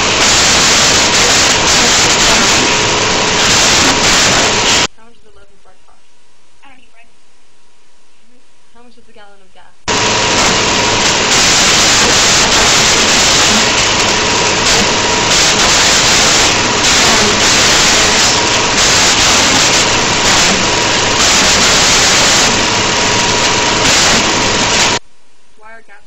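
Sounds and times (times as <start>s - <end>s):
static hiss: 0.0s - 9.2s, 9.8s - 25.6s.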